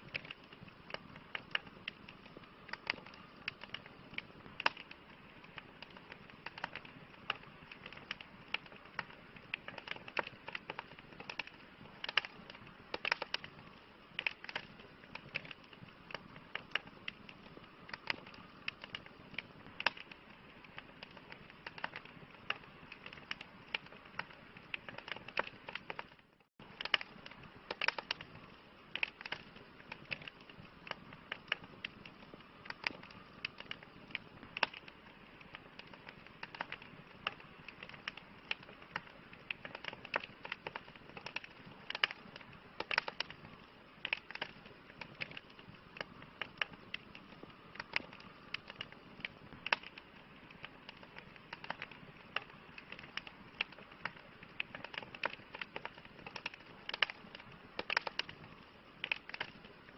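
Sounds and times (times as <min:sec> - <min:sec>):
campfire crackling: 0:00.0 - 0:59.9
fire hissing: 0:00.0 - 0:59.9.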